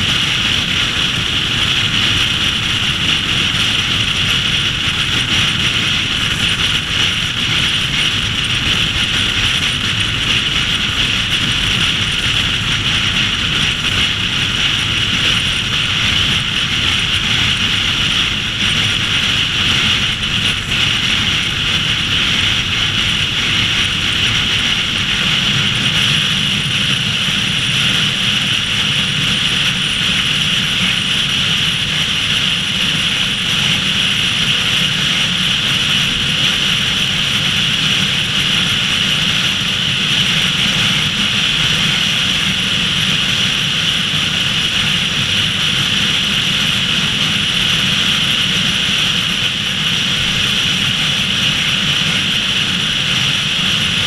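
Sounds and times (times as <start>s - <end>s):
car road and wind noise: 0.0s - 54.0s.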